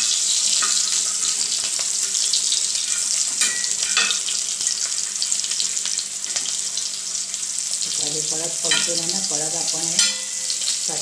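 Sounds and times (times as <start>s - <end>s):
chillies sizzling in oil: 0.0s - 11.0s.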